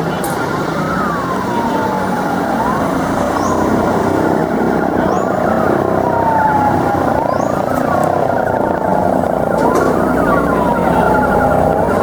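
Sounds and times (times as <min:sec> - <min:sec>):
traffic and engine noise: 0:00.0 - 0:12.0
vehicle siren wailing: 0:00.0 - 0:12.0.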